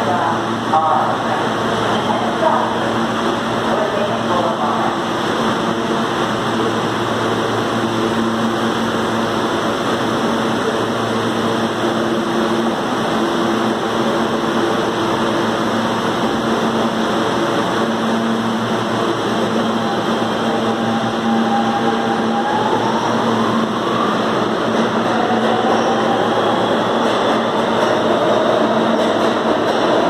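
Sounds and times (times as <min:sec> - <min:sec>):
subway train motors humming: 0:00.0 - 0:30.0.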